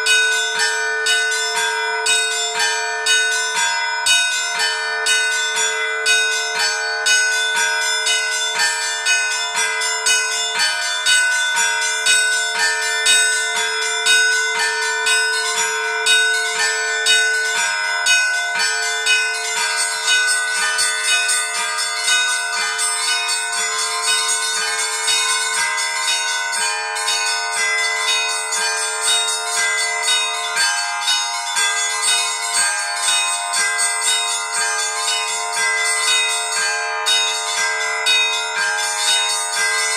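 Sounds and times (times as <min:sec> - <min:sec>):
small church bells struck rapidly: 0:00.0 - 0:39.9.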